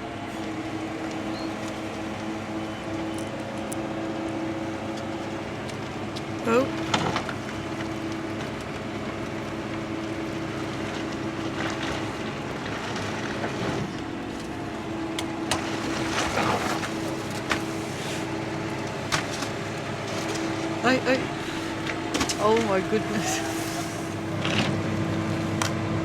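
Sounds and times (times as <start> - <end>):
crane engine droning: 0.0 - 26.0.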